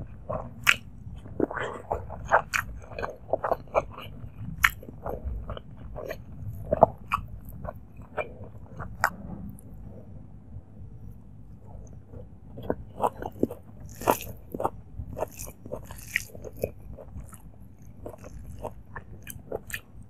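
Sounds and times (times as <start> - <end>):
wet chewing mouth clicks: 0.0 - 9.6, 11.8 - 20.0.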